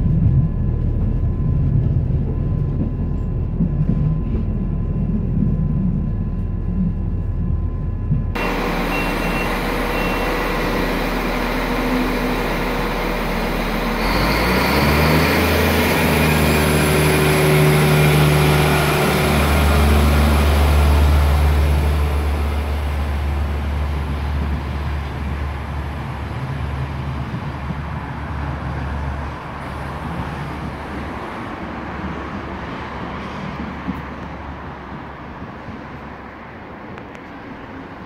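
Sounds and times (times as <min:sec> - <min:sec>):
diesel train pulling away: 0:00.0 - 0:35.2.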